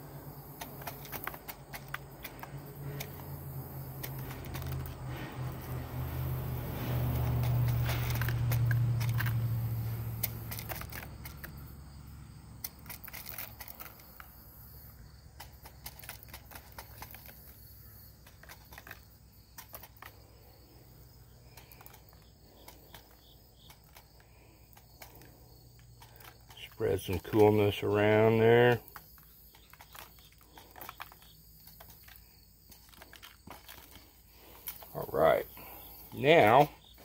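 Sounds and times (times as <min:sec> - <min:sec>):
pebbles ticking into bags: 0:00.0 - 0:11.7, 0:12.6 - 0:37.0.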